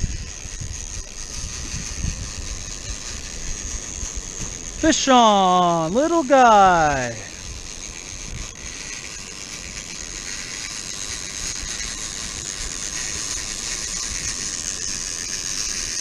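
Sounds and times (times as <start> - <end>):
fishing reel drag buzzing: 0.0 - 16.0.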